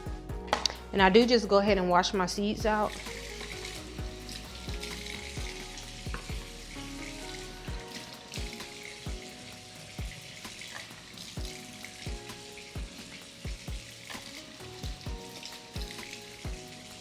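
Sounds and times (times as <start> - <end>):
music with a steady beat: 0.0 - 17.0
kitchen tap running: 2.6 - 17.0.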